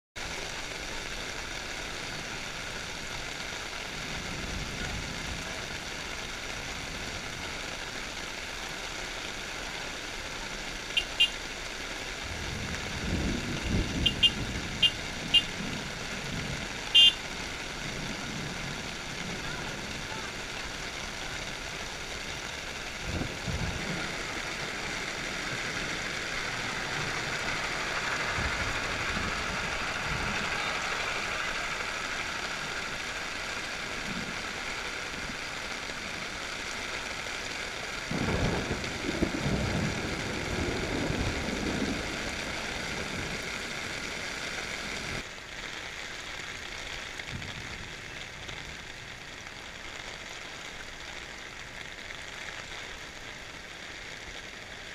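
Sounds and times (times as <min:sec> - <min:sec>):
floodwater rushing: 0:00.2 - 0:54.9.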